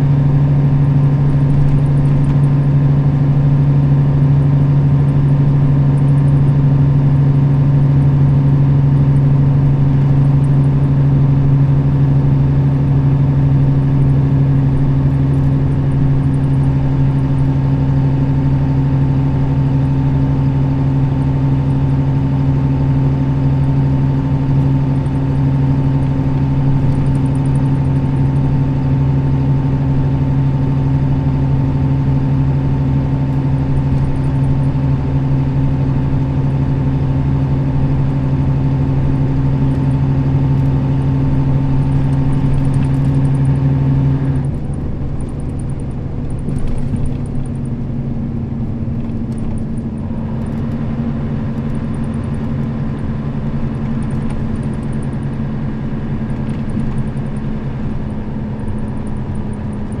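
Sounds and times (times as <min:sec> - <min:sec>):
diesel bus engine drone: 0:00.0 - 1:00.0.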